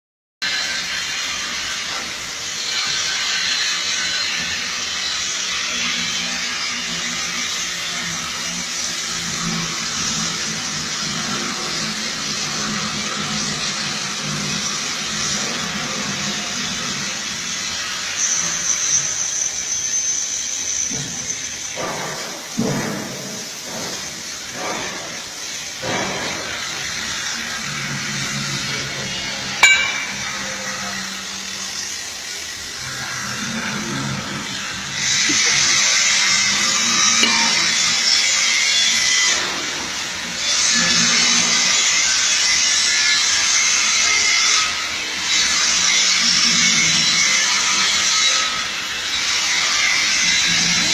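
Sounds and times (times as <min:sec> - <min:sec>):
cutting torch hissing: 0:00.5 - 0:44.0.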